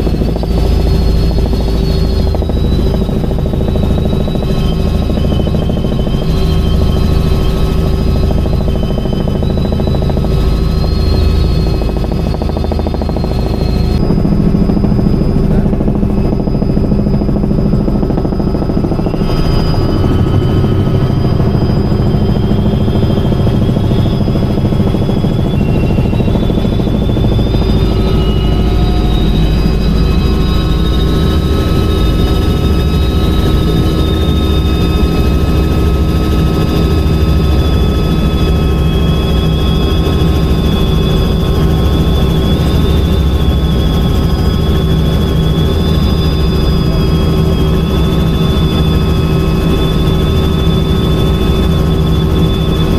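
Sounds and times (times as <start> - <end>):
helicopter engine and rotor drone: 0.0 - 52.9
high whine tones: 0.0 - 52.9.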